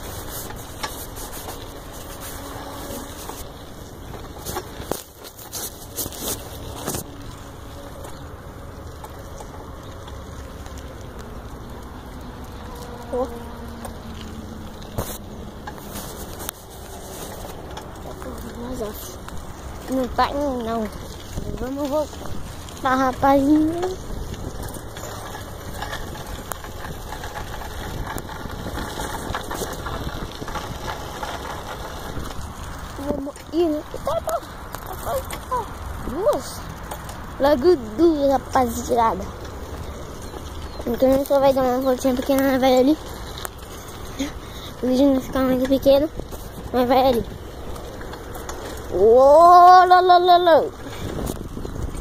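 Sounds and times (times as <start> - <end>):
bicycle clicks and rattles: 0.0 - 52.0
wind rumble on microphone: 0.0 - 52.0.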